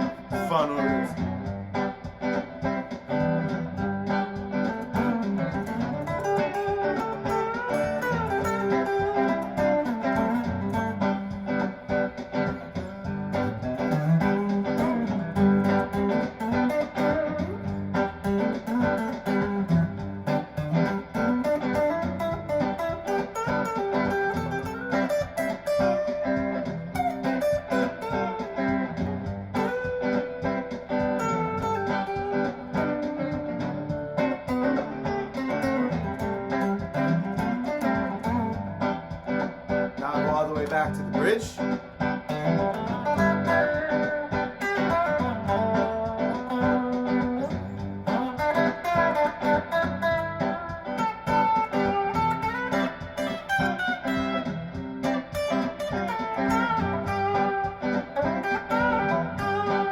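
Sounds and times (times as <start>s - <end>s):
looped drum beat: 0.0s - 59.9s
overdriven electric guitar lead: 0.0s - 59.9s.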